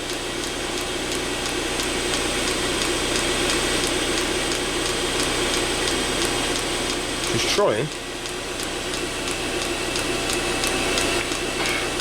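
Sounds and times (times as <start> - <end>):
fuel pump ticking: 0.0 - 11.5
heater fan running: 0.0 - 12.0.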